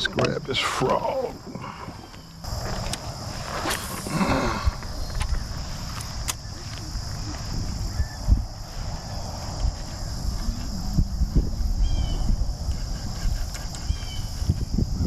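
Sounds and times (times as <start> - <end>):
wind rumble on microphone: 1.3 - 15.0
high-pitched insect buzz: 2.2 - 15.0.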